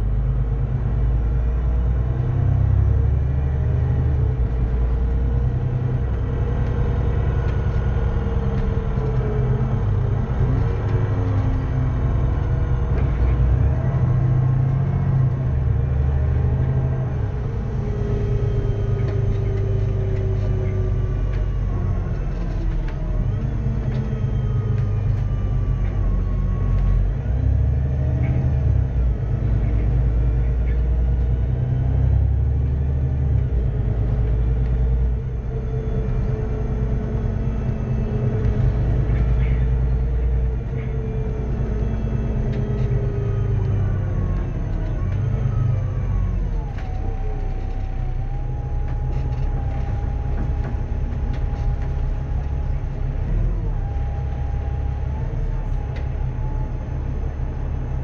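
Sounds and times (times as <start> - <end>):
bus engine rumble: 0.0 - 58.0
gearbox whine: 2.7 - 58.0.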